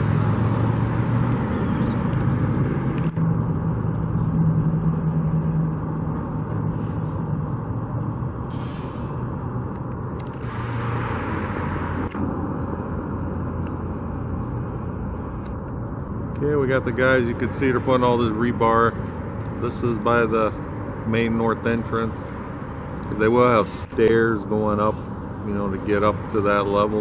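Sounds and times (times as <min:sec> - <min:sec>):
traffic engine rumble: 0:00.0 - 0:27.0.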